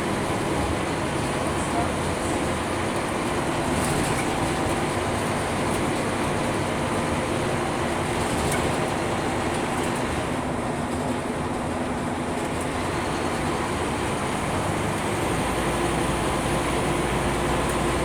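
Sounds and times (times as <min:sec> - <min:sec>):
bus diesel engine running: 0:00.0 - 0:18.0
road and tyre noise: 0:00.0 - 0:18.0.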